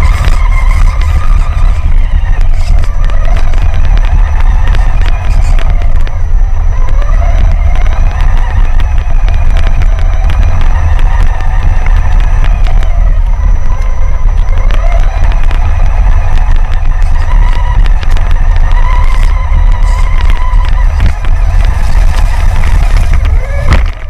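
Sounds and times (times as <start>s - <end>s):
electric motor whining: 0.0s - 24.0s
heavy low rumble: 0.0s - 24.0s
sharp clicks and knocks: 0.0s - 24.0s.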